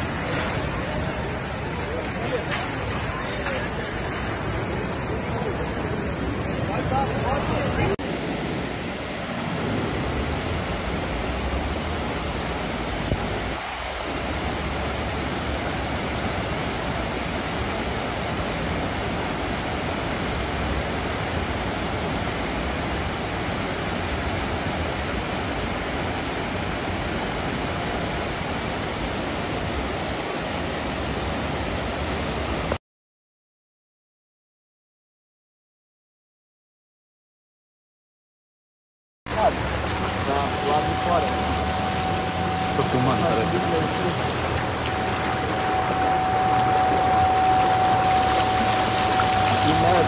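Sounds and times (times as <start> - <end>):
floodwater rushing: 0.0 - 32.7, 39.3 - 50.0.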